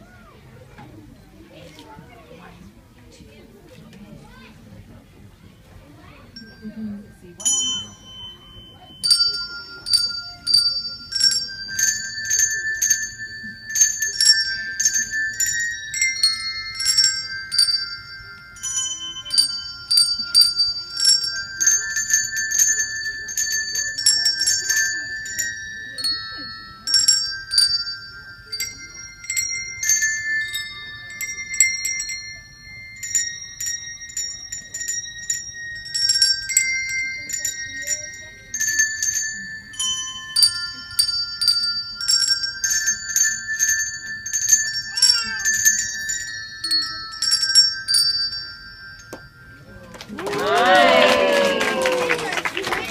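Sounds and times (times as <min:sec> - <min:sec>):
handbells playing a simple tune: 0:05.4 - 0:52.9.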